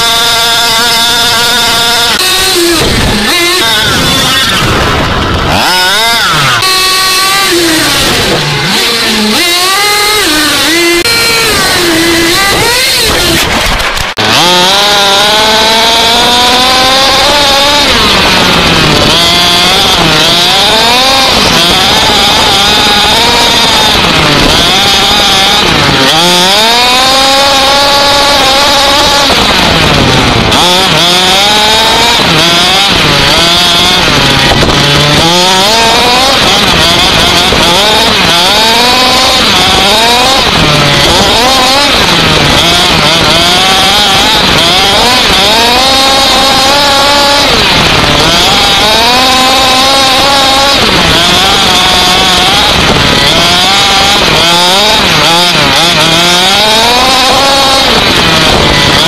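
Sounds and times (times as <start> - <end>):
rc car engine revving: 0.0 - 59.0.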